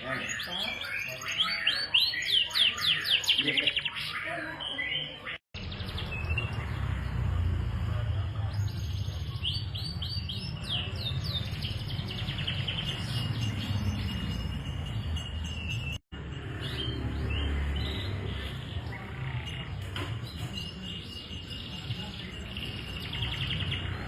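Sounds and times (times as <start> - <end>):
canary singing trills: 0.0 - 7.1, 8.4 - 24.0.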